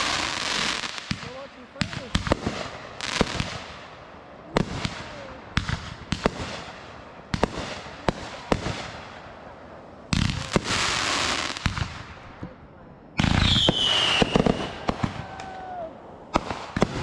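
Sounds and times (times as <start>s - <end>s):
dense fireworks crackling: 0.0s - 17.0s
fireworks banging with echo: 0.0s - 17.0s.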